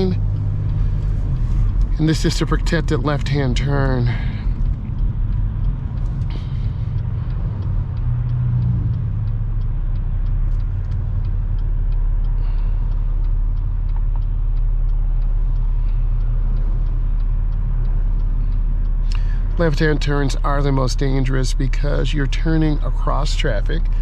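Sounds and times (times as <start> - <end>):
car engine and road rumble: 0.0 - 24.0
turn signal clicking: 0.0 - 24.0.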